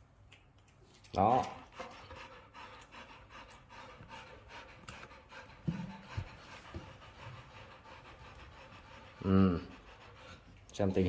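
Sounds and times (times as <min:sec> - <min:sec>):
dogs panting: 0:01.3 - 0:11.0.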